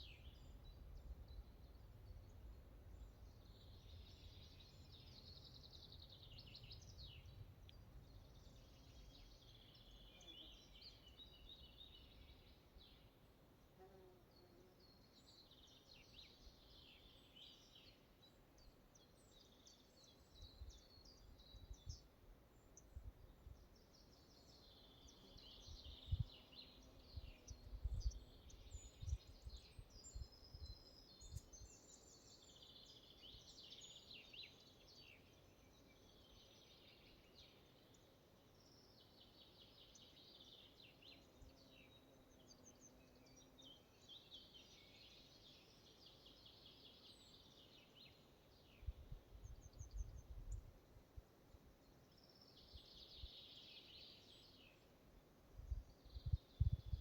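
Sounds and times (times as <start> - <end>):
low background hiss: 0.0 - 57.0
small birds chirping: 0.0 - 57.0.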